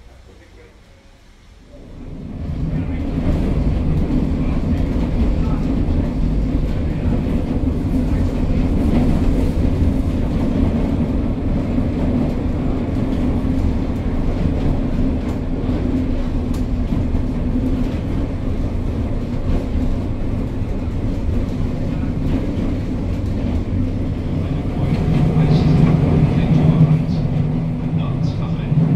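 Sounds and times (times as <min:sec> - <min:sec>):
tram wheels rumbling on rails: 0:00.0 - 0:28.9.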